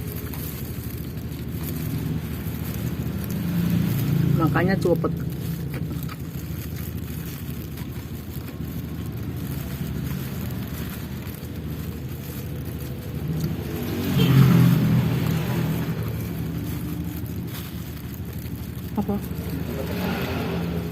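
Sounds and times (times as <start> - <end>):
traffic engine hum: 0.0 - 20.9
vehicle passing: 0.0 - 20.9.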